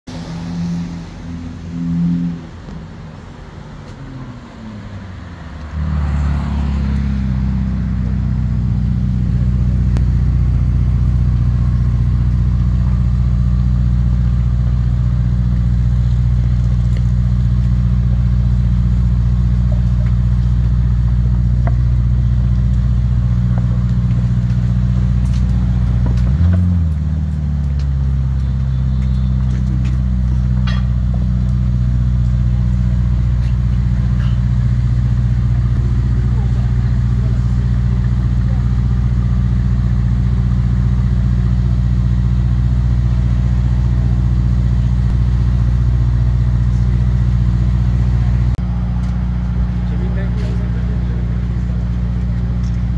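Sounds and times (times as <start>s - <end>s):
car engine idling: 0.1s - 52.9s.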